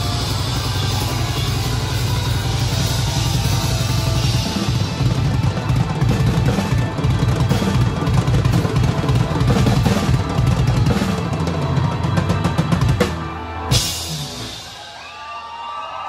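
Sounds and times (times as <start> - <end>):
fast rock drumming: 0.0 - 15.5.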